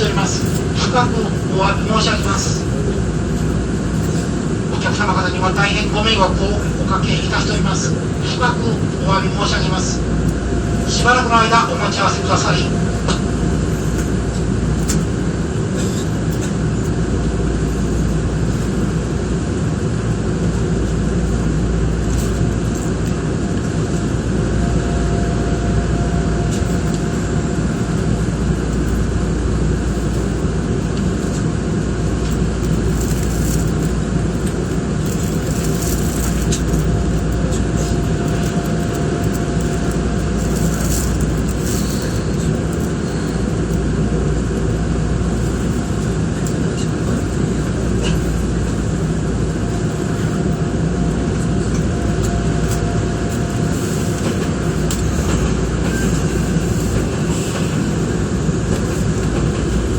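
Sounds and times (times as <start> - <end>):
train interior hum and rumble: 0.0 - 59.9.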